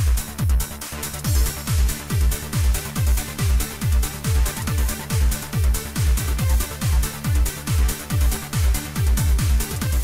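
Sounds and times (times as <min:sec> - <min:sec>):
electronic trance music: 0:00.0 - 0:10.0.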